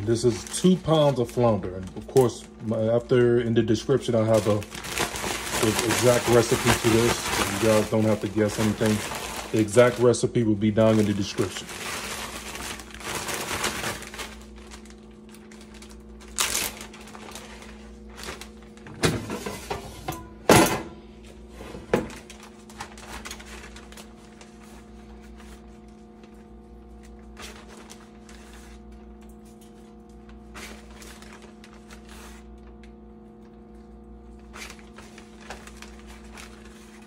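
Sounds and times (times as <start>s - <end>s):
plastic bag crinkling: 0.0s - 19.0s, 22.1s - 33.0s, 34.1s - 37.0s
steady low hum: 0.0s - 37.0s.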